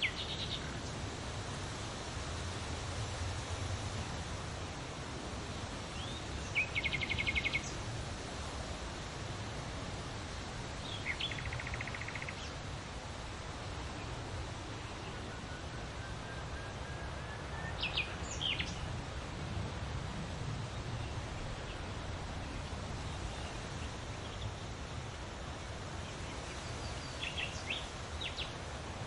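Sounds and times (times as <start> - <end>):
background hiss: 0.0 - 29.0.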